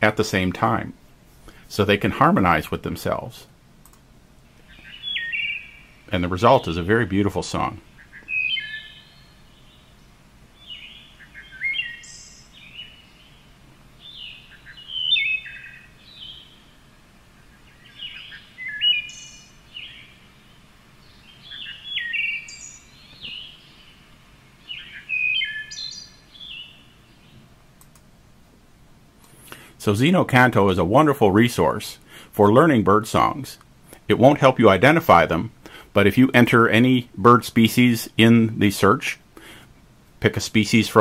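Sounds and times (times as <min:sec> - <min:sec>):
recorded thrush song: 0:00.0 - 0:41.0.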